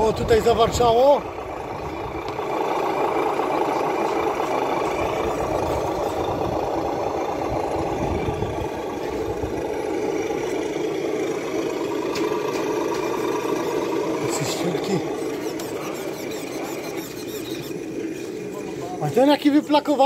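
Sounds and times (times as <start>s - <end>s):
engine sound module growling: 0.0s - 20.0s.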